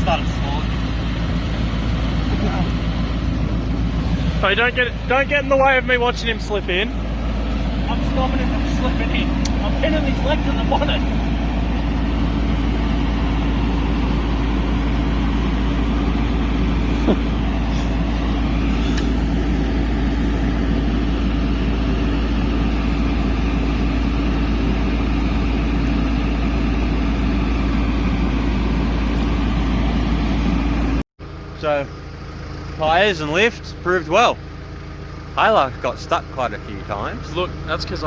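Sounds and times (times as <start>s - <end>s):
engine running steadily: 0.0s - 38.0s.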